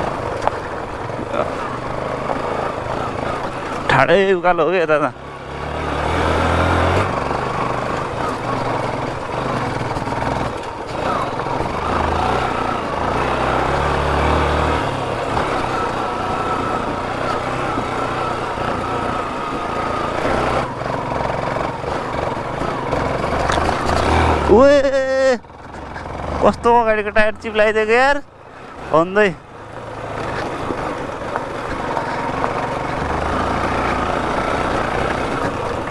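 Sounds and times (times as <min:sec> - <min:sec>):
motorcycle engine under load: 0:00.0 - 0:35.9.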